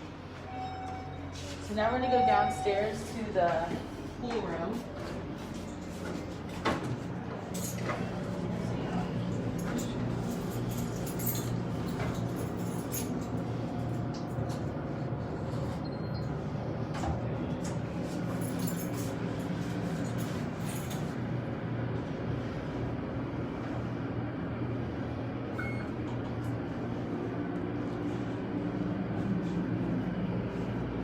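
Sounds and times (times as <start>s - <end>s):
elevator humming and rumbling: 0.0s - 31.0s.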